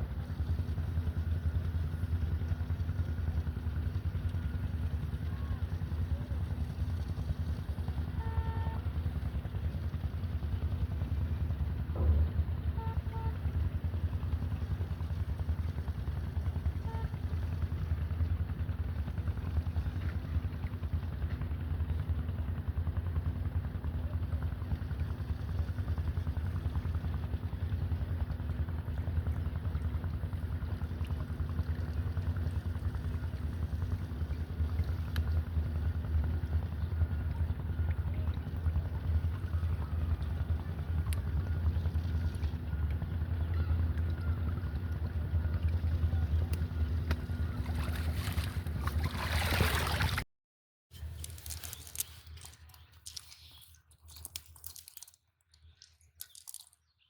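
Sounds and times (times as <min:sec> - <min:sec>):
small engine droning: 0:00.0 - 0:50.2.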